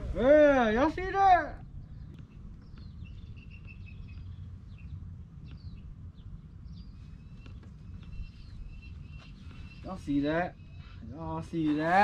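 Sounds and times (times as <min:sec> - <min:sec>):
steady low rumble: 0:00.0 - 0:11.7
small birds chirping: 0:01.0 - 0:12.0.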